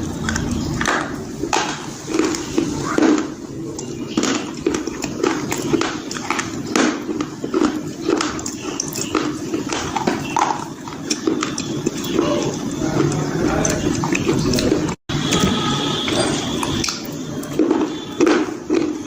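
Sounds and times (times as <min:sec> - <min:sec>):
crunching and chewing slate: 0:00.0 - 0:19.0.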